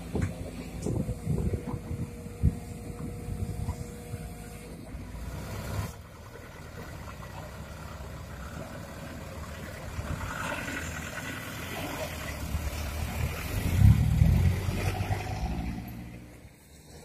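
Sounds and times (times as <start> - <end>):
diesel engine rumble: 0.0 - 17.0
truck pulling away: 0.0 - 17.0.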